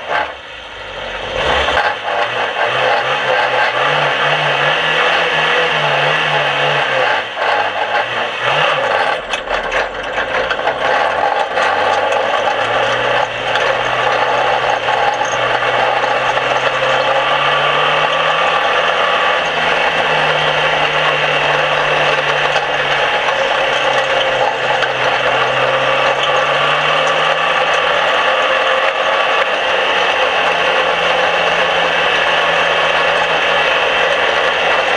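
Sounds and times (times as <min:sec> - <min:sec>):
car body rattling: 0:00.0 - 0:34.9
race car engine running: 0:00.0 - 0:34.9
sharp clicks and knocks: 0:01.6 - 0:34.9.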